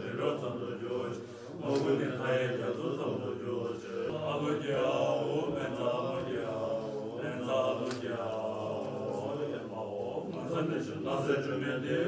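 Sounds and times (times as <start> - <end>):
monks chanting in unison: 0.0 - 12.0.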